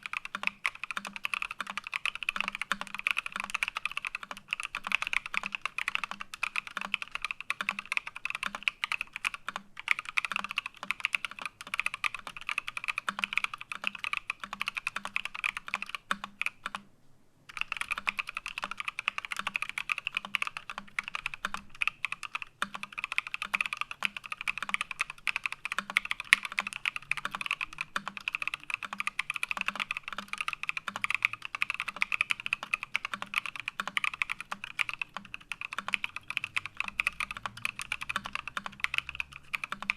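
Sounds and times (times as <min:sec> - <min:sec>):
fast typing on mechanical keyboard: 0:00.0 - 0:16.8, 0:17.5 - 0:39.9.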